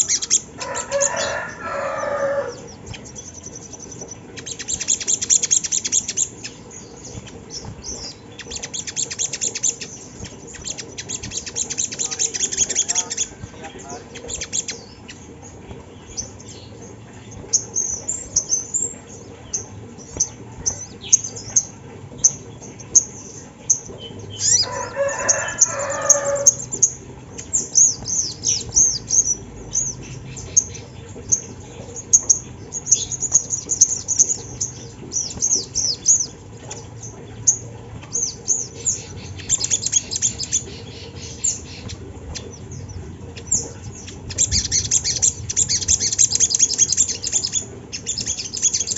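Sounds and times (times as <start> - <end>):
sunbird chirps and trills: 0.0 - 48.9.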